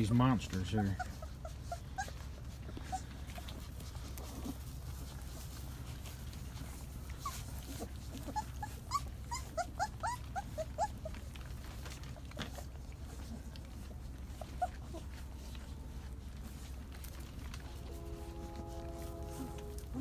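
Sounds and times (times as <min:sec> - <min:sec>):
puppies whimpering: 0:00.0 - 0:20.0.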